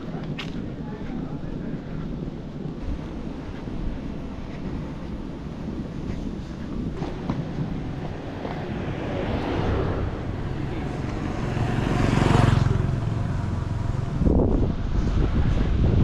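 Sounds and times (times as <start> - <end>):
engine low rumble: 0.0 - 16.0
wind buffeting microphone: 0.0 - 16.0.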